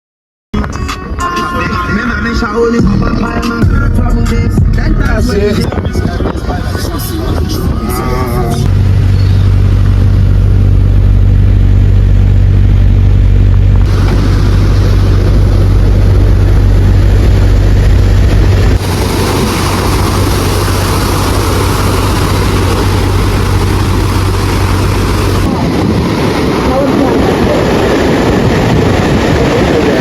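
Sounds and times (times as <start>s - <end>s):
engine running: 0.6s - 30.0s
loud rushing noise: 1.0s - 30.0s.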